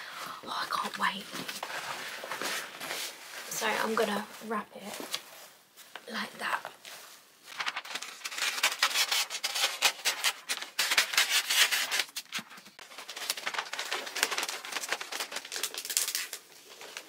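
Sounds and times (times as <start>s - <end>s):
wrapping paper rustling: 1.0s - 5.5s, 6.4s - 17.0s.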